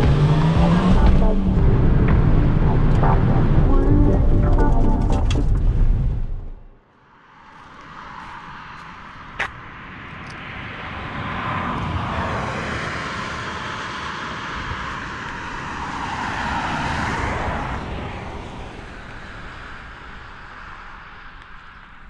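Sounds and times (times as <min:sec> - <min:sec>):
traffic passing: 0:00.0 - 0:22.0.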